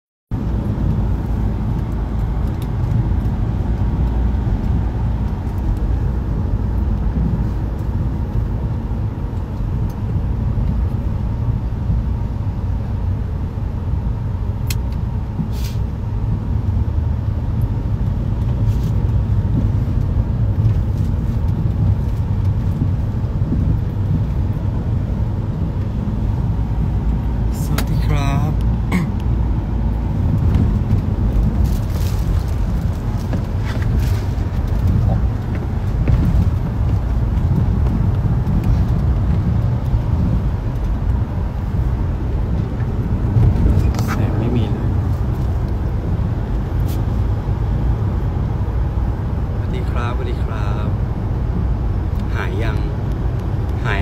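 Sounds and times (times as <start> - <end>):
van rumble from inside cabin: 0.3 - 54.0.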